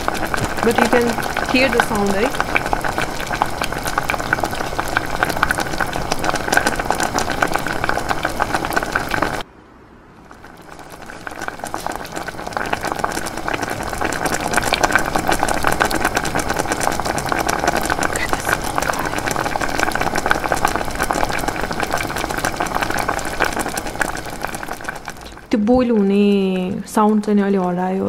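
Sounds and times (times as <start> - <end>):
water boiling vigorously: 0.0 - 9.4, 10.2 - 28.0.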